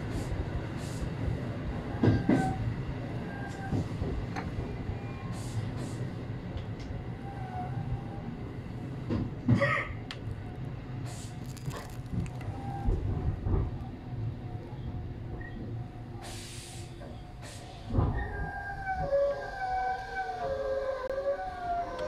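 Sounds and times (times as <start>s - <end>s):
train wheels rumbling: 0.0s - 19.4s.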